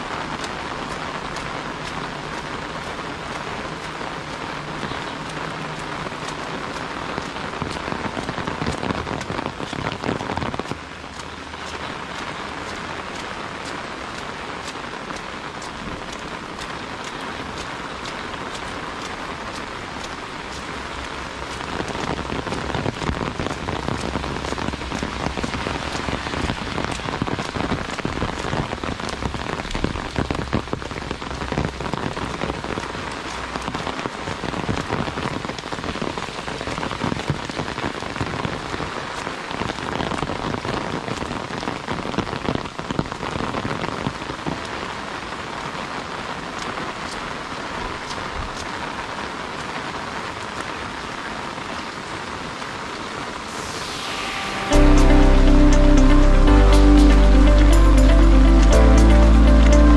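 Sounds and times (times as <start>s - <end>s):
heavy rain falling: 0.0s - 59.9s
raindrops hitting an umbrella: 0.0s - 59.9s.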